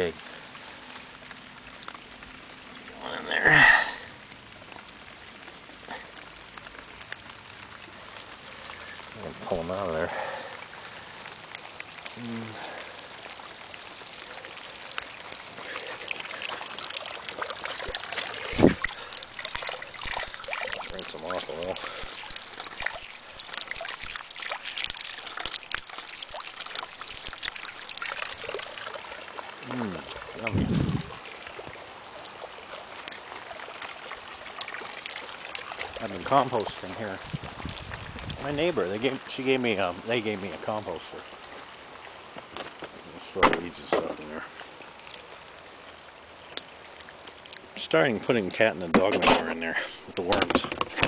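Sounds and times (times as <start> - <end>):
light rain hissing: 0.0 - 51.0
water pouring into a tub: 0.0 - 51.0.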